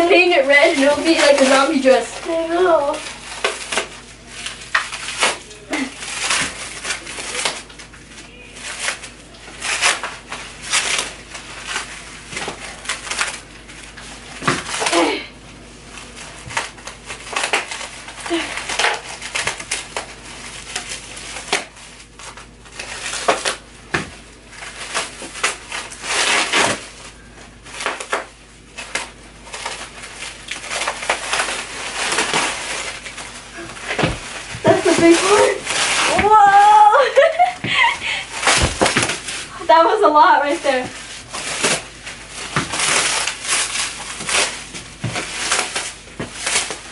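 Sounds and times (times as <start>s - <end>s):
cling film crinkling and tearing: 0.0s - 46.9s.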